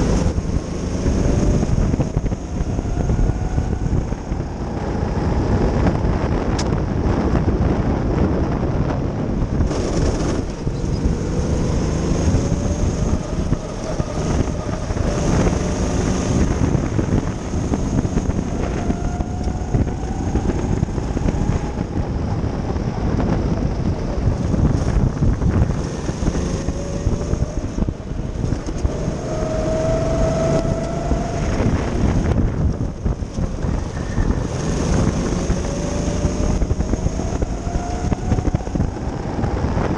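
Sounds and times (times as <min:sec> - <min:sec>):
go-kart engine running hard: 0:00.0 - 0:39.9
wind buffeting microphone: 0:00.0 - 0:39.9.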